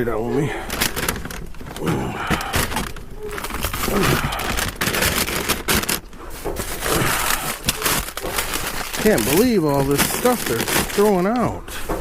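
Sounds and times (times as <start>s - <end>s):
packaged food knocks and clicks: 0.7s - 11.5s.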